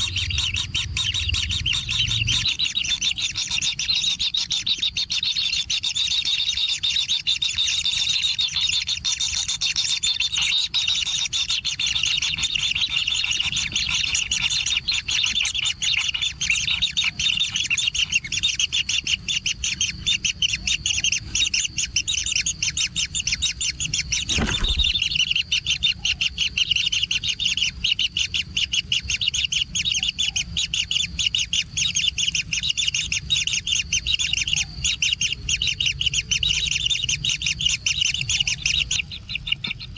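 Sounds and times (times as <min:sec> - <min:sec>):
nestlings rasping chatter: 0:00.0 - 0:39.9.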